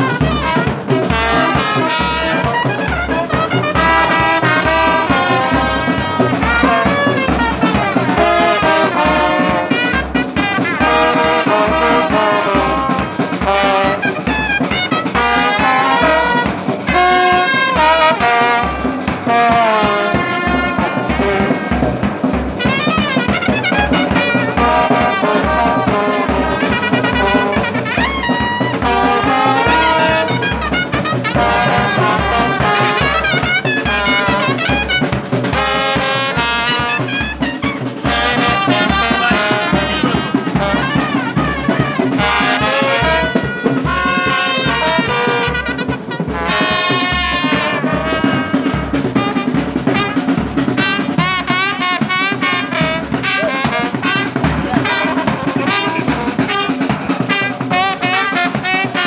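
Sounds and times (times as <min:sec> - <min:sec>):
steady low drum beat: 0:00.0 - 0:59.0
trumpets and trombones melody: 0:00.0 - 0:59.0.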